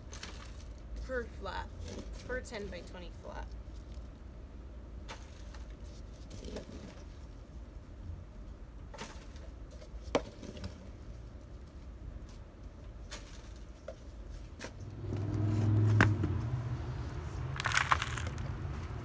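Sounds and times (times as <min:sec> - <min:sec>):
plastic cup scooping potting mix: 0:00.0 - 0:04.3, 0:05.0 - 0:07.7, 0:08.8 - 0:19.0.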